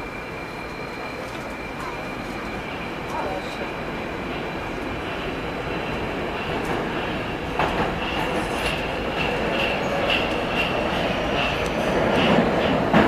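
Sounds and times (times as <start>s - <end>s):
metro train running rumble: 0.0s - 13.0s.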